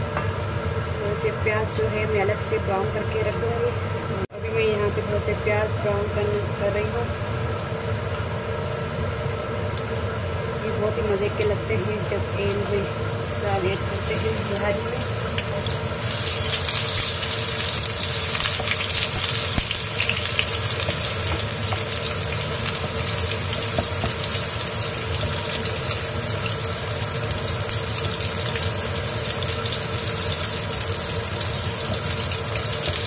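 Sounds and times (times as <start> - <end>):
onions sizzling in hot oil: 4.6 - 33.0.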